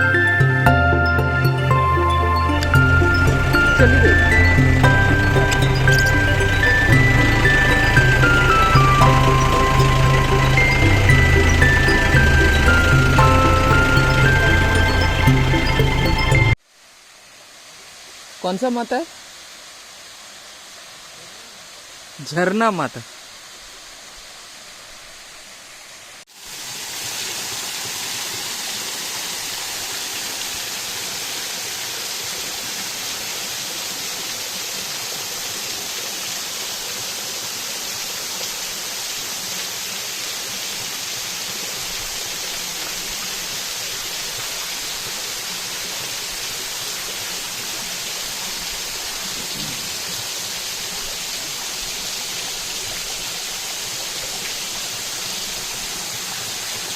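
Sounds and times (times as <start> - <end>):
waterfall rushing: 0.0 - 16.6, 17.5 - 56.9.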